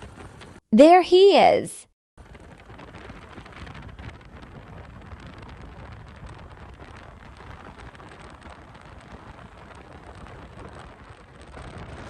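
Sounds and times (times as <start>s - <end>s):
motorcycle road noise: 2.2s - 12.0s
wind buffeting microphone: 2.2s - 12.0s.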